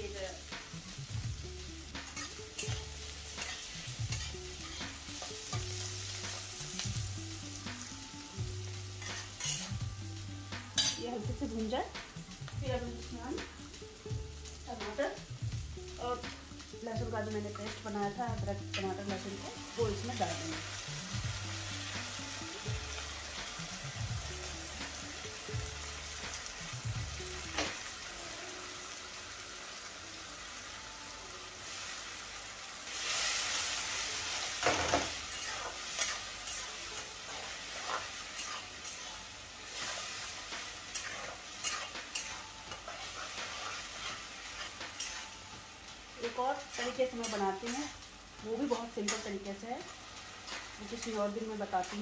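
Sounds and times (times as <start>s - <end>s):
vegetables sizzling in oil: 0.0s - 52.0s.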